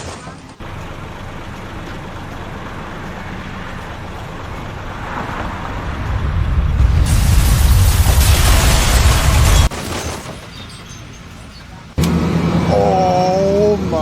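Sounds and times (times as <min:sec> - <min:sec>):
motor vehicle rumbling: 0:00.0 - 0:14.0.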